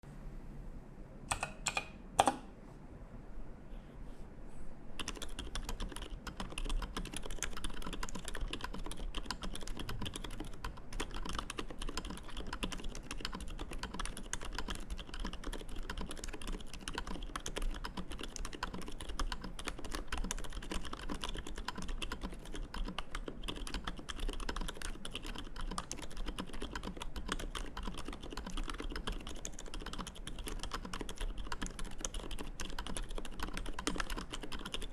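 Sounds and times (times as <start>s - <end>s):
typing on mechanical keyboard: 5.0s - 34.9s.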